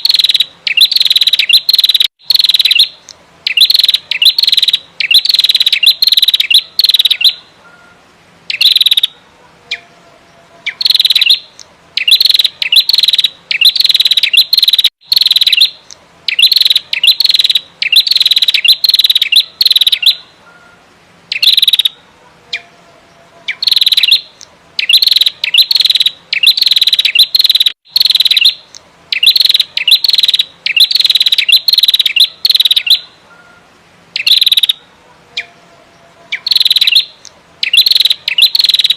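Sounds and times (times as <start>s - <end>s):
bird chattering calls: 0.0s - 9.9s, 10.6s - 22.7s, 23.5s - 33.6s, 34.2s - 34.8s, 36.3s - 38.9s.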